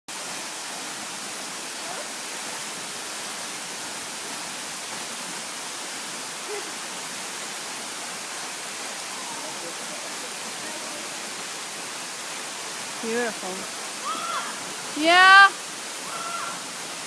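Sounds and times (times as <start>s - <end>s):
waterfall rushing: 0.1s - 17.0s.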